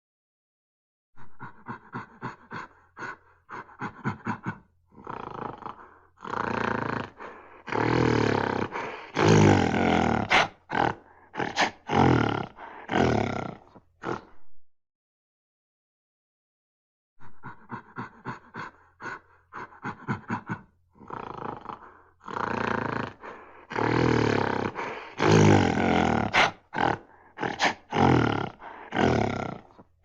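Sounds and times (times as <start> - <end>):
gorilla snarling and grunting: 1.2 - 14.4, 17.2 - 30.0.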